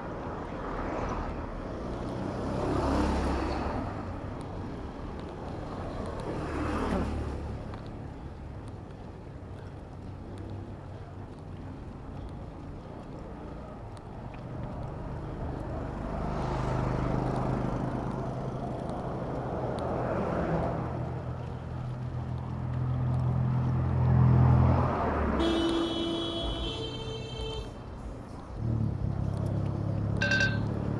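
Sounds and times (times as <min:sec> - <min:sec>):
vehicle engines passing: 0:00.0 - 0:30.9.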